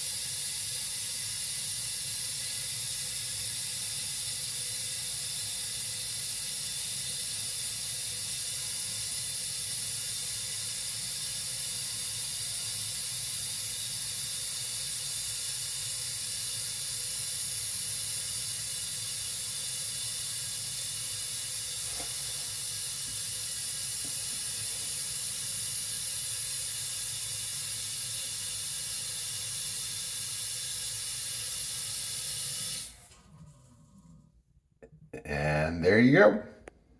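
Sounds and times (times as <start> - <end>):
toilet fill valve hissing: 0.0 - 34.3.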